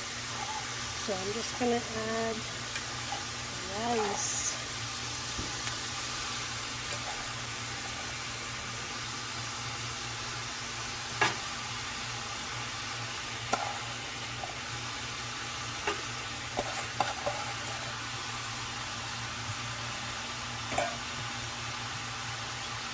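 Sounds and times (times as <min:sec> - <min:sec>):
meat and rice sizzling in a pan: 0:00.0 - 0:22.9.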